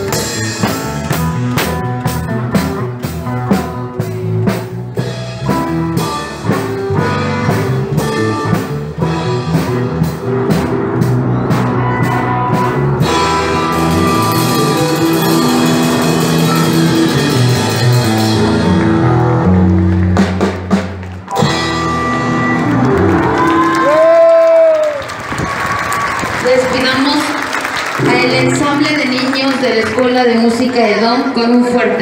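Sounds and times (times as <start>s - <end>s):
keyboard chords: 0.0s - 23.8s, 27.9s - 31.4s
drum beats: 0.0s - 24.3s, 27.9s - 30.6s.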